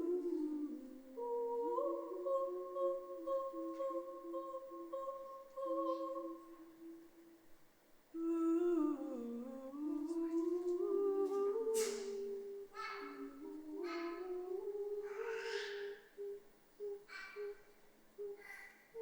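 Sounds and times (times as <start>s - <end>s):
voices humming in chorus: 0.0s - 7.4s, 8.2s - 19.0s.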